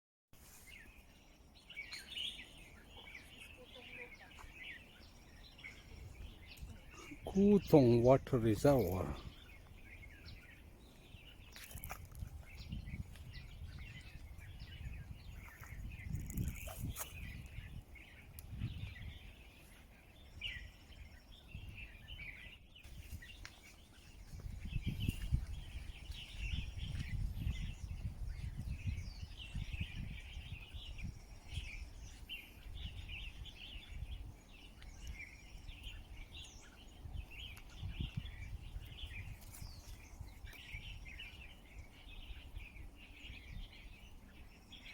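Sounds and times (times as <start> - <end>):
small birds chirping: 0.4 - 44.9.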